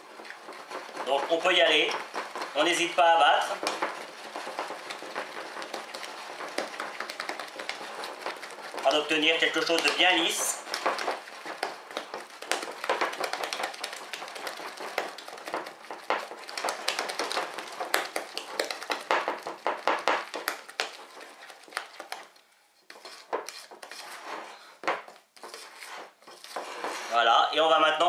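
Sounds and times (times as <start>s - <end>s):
spatula beating batter in glass bowl: 0.0s - 28.0s.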